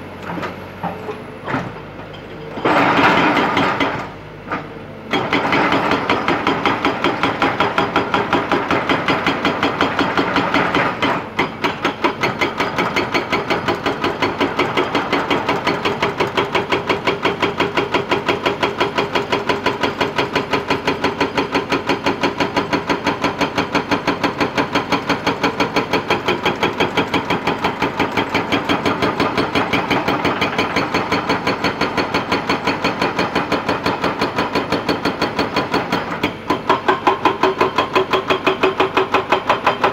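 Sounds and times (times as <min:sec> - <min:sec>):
hydraulic breaker pounding rock: 0:00.1 - 0:39.9.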